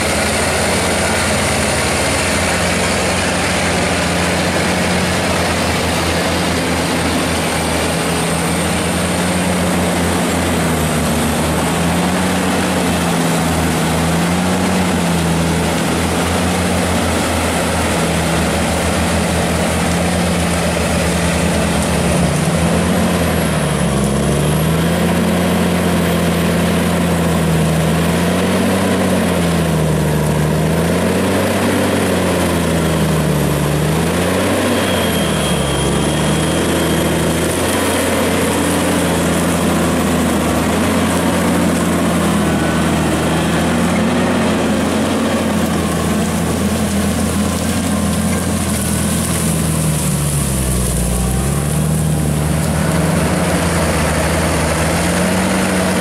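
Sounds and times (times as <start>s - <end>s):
tractor diesel engines under load: 0.0s - 56.0s.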